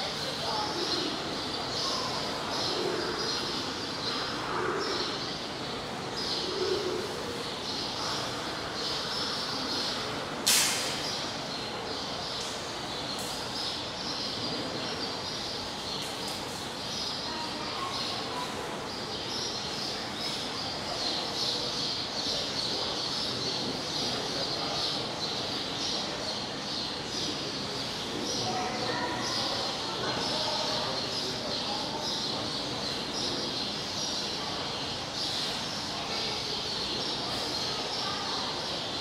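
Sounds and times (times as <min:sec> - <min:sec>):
background noise: 0:00.0 - 0:39.0.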